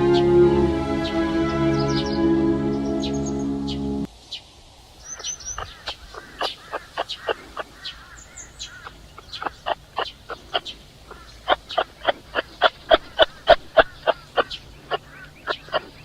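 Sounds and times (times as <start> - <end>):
birds calling: 0.0 - 4.1, 5.0 - 16.0
high bird chirps: 1.0 - 3.9, 5.0 - 16.0.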